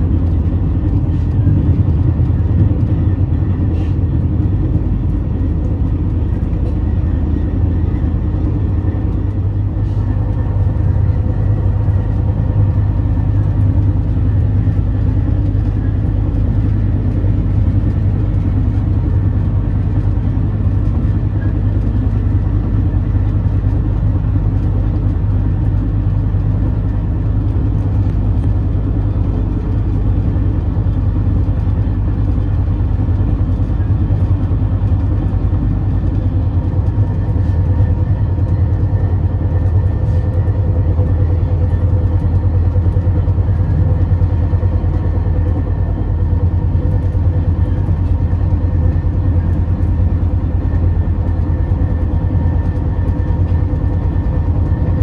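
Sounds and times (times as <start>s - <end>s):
sleeper train rumbling: 0.0s - 55.0s.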